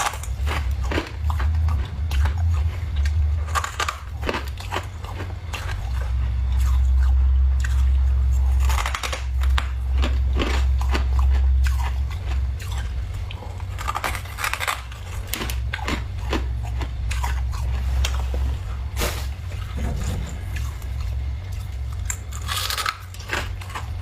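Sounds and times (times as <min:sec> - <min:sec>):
freezer frost crunching: 0:00.0 - 0:24.0
steady low hum: 0:00.0 - 0:24.0.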